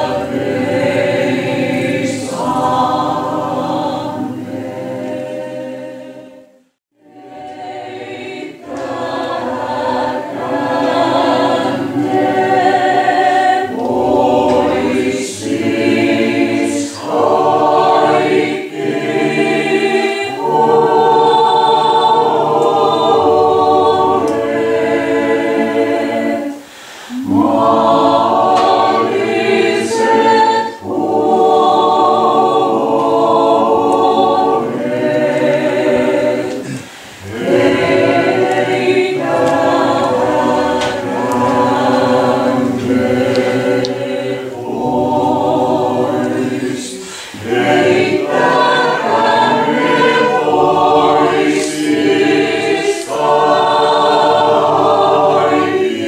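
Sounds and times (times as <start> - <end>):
voices singing liturgical chant: 0.0 - 56.0.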